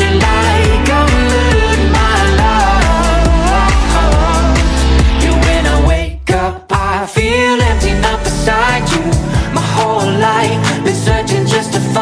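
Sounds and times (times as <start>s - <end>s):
steady drum beat: 0.0s - 11.9s
person singing: 0.0s - 12.0s.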